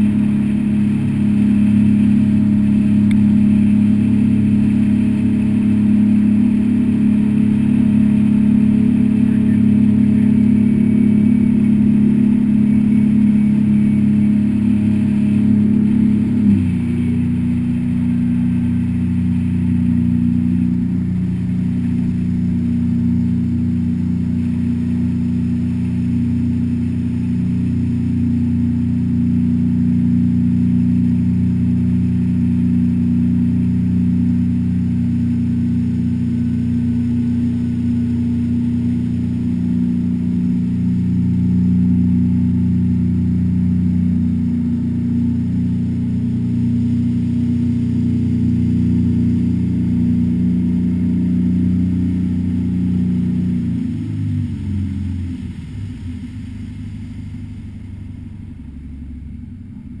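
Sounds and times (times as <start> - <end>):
boat engine droning: 0.0 - 60.0.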